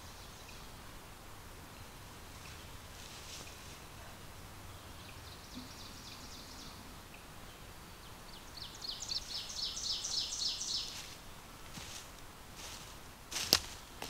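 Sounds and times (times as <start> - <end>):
songbird singing: 0.0 - 11.9.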